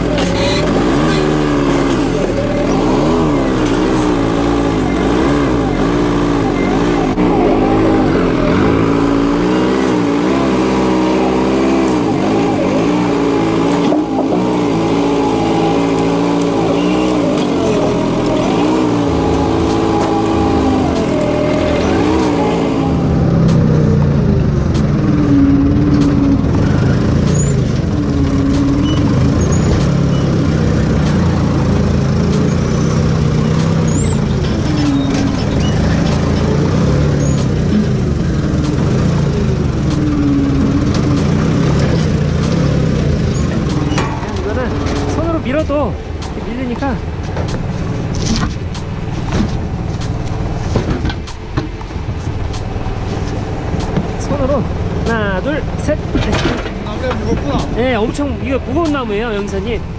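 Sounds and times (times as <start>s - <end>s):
forklift engine running: 0.0s - 59.9s.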